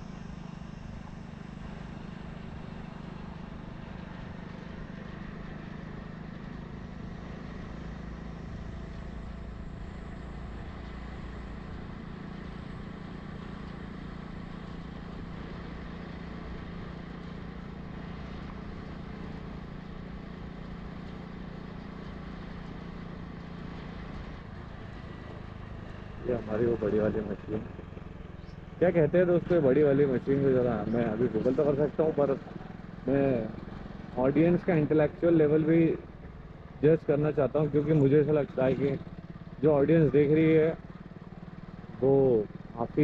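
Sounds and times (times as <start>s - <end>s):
road noise: 0.0s - 43.0s
vehicle engine humming: 0.0s - 43.0s.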